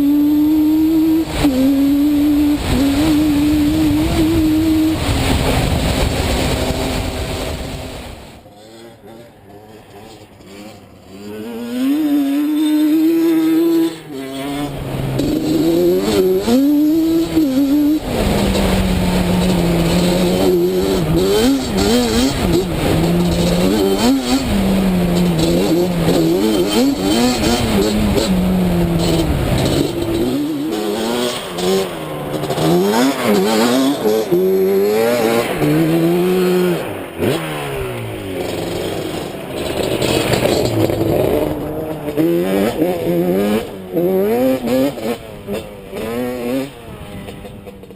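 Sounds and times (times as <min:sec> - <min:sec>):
two-stroke quad engine revving: 0:00.0 - 0:47.9.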